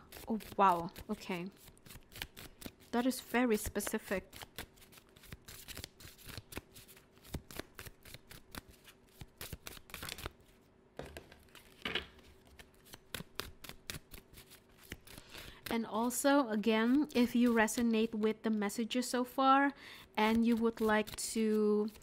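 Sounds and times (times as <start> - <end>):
cards being shuffled: 0.0 - 18.1.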